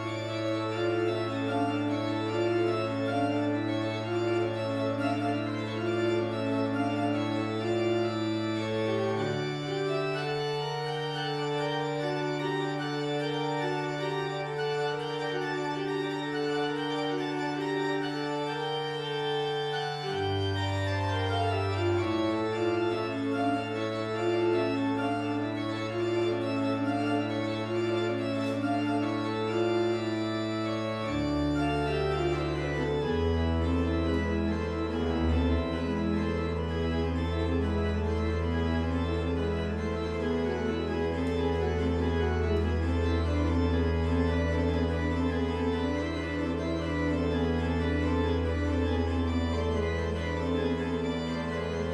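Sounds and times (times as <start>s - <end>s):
church organ playing: 0.0s - 51.9s.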